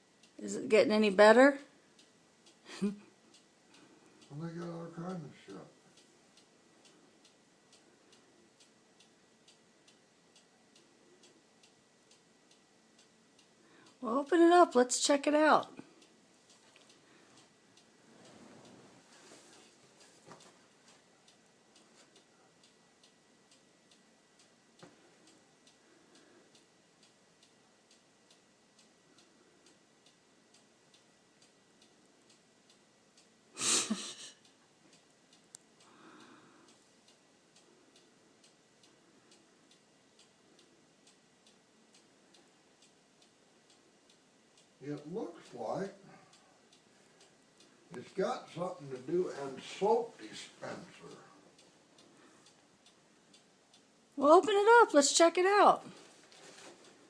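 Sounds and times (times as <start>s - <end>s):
faint even ticking: 0.0s - 55.0s.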